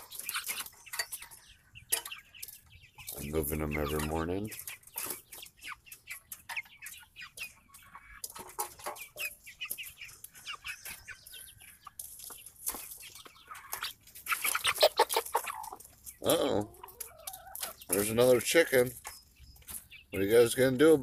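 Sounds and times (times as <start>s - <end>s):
chickens calling: 0.0s - 21.0s.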